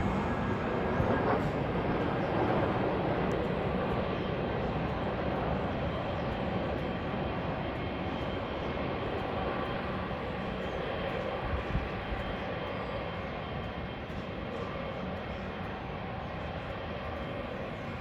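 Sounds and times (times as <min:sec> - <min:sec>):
airliner engines running: 0:00.0 - 0:18.0.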